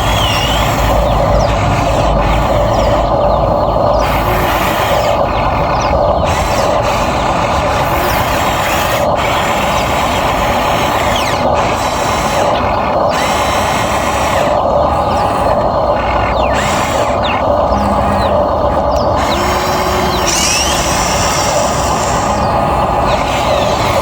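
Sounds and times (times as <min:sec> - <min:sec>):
toy excavator motor whine: 0:00.0 - 0:24.0.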